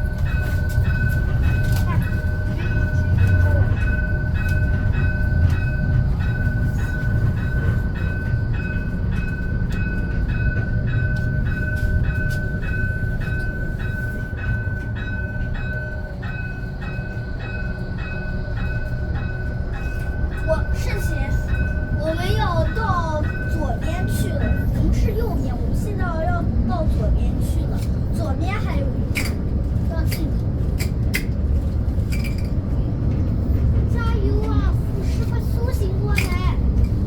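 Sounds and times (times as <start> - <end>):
tram wheels rumbling: 0.0 - 37.0.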